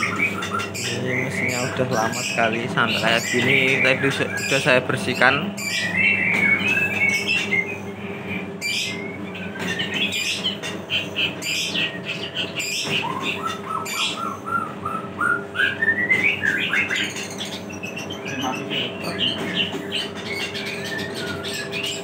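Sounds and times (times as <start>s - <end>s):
birds chirping: 0.0s - 22.0s
slicing machine humming: 0.0s - 22.0s.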